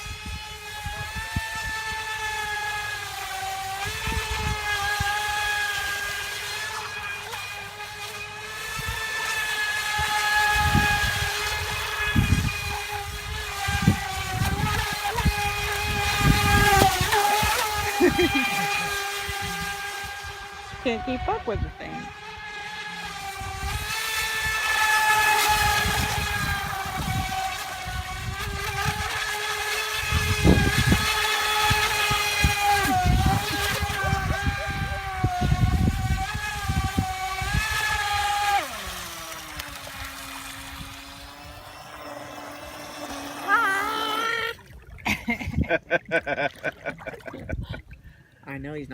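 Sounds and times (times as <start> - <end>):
wind on microphone: 0.0 - 6.6, 8.6 - 46.2, 46.9 - 48.2
electric motor whining: 0.0 - 45.7.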